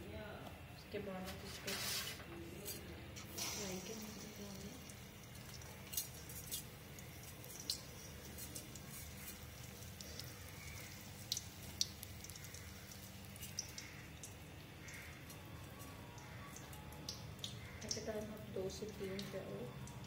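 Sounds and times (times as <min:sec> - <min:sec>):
food deep-frying in oil: 0:01.2 - 0:20.0
oil popping and crackling: 0:03.2 - 0:20.0.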